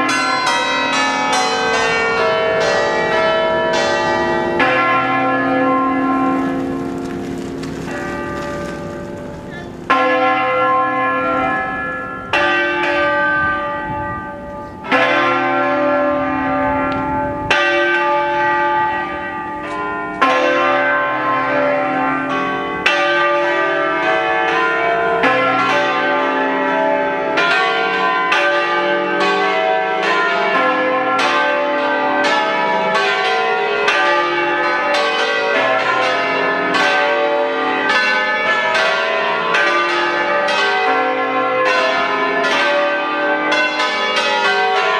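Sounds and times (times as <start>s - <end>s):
church bells ringing: 0.0s - 44.9s.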